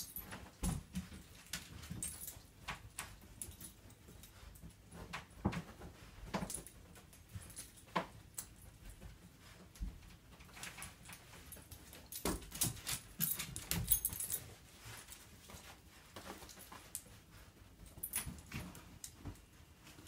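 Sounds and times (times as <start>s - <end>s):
dog paws thumping and tapping: 0.0s - 20.0s.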